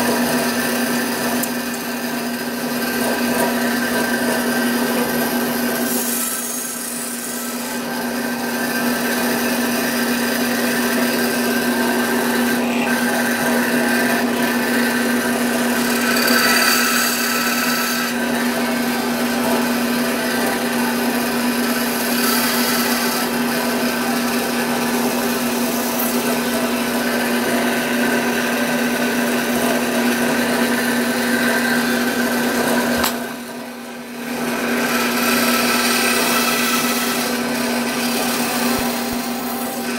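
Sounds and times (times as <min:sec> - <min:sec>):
bandsaw motor humming: 0:00.0 - 0:39.9
blade cutting wood: 0:00.0 - 0:39.9.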